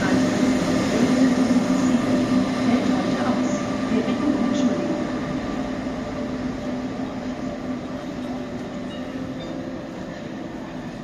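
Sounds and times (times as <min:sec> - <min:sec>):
electric locomotive traction hum: 0:00.0 - 0:11.0
train rolling noise: 0:00.0 - 0:11.0.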